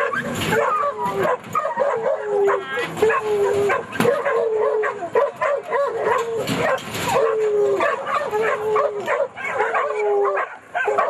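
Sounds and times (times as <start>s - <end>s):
dogs baying and howling: 0.0s - 11.0s
dogs yelping: 0.0s - 11.0s.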